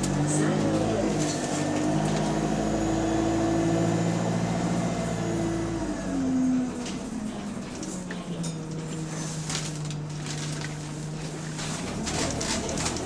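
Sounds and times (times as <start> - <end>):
bus diesel engine pulling: 0.0 - 13.0.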